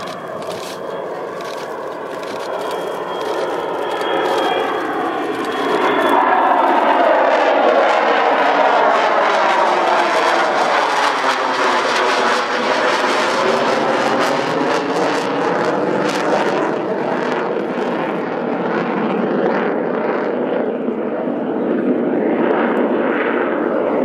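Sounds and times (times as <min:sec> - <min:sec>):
fighter jet roaring overhead: 0:00.0 - 0:24.0.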